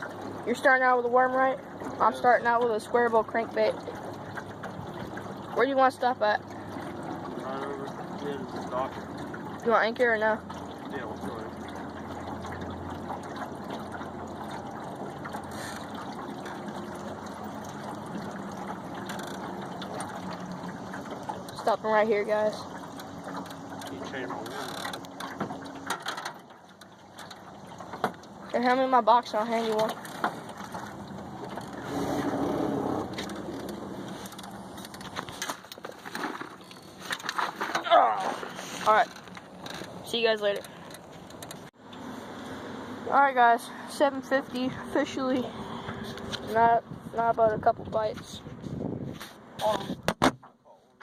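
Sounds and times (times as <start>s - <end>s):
water lapping along boat hull: 0.0s - 51.0s.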